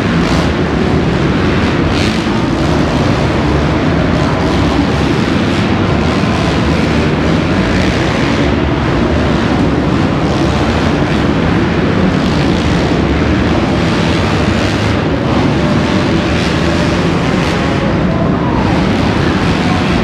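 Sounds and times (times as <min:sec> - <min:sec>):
motocross bikes racing: 0:00.0 - 0:20.0.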